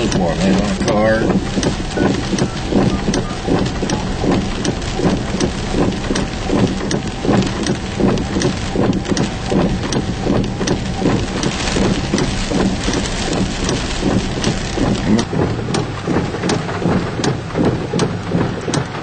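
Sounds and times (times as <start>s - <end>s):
rain beating on car roof: 0.0s - 19.0s
running vehicle hum: 0.0s - 19.0s.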